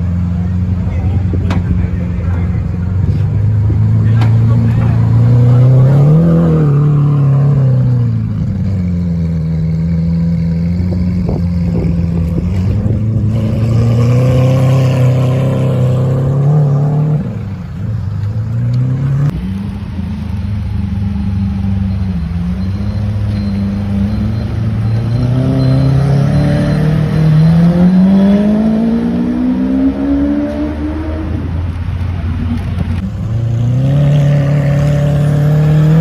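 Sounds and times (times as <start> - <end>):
car engine running at low revs: 0.0 - 29.5.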